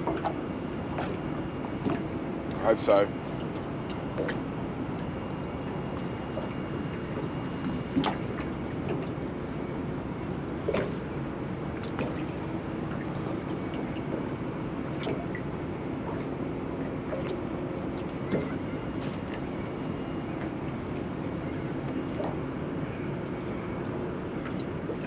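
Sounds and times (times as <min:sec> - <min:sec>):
water slapping against boat hull: 0:00.0 - 0:02.6, 0:03.2 - 0:09.7, 0:10.6 - 0:22.5, 0:23.3 - 0:25.0
steady low rumble: 0:00.0 - 0:25.0.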